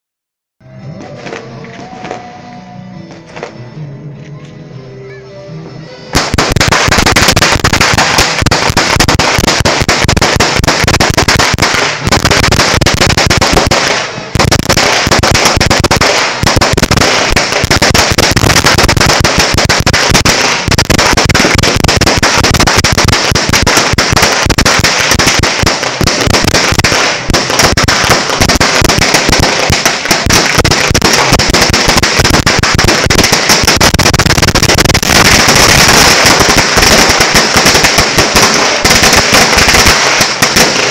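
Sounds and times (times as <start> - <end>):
firecracker string banging: 6.1 - 40.9.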